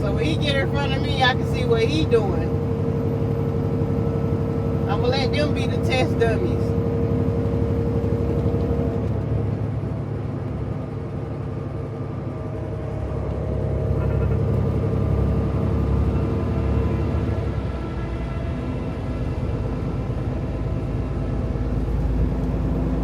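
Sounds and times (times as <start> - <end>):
truck engine drone: 0.0 - 23.0.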